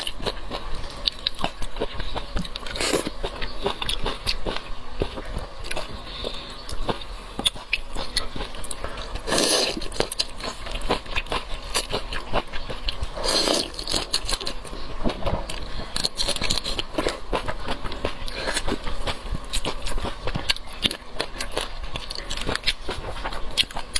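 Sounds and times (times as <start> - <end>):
crunchy chewing and biting: 0.0 - 23.9.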